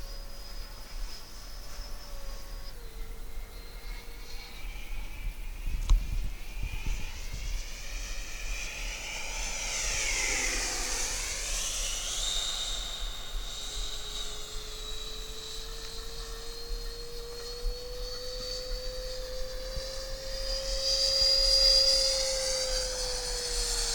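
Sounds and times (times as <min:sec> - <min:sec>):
model jet whining past: 0:00.0 - 0:23.9.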